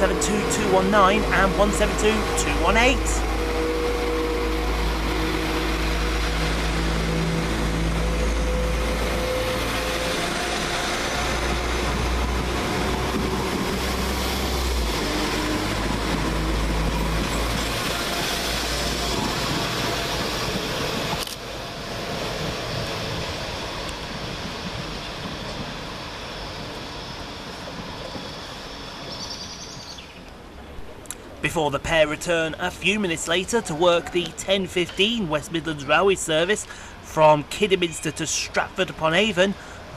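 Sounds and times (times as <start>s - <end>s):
wheel and rail noise: 0.0s - 37.7s
train diesel engines droning: 0.0s - 39.9s.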